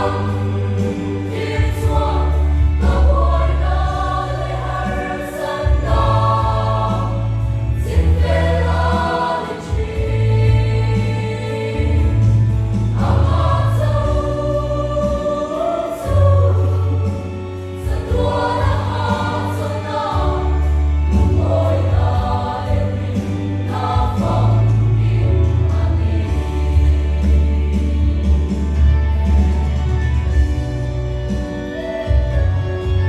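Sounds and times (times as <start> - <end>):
mixed choir singing a hymn: 0.0 - 30.6.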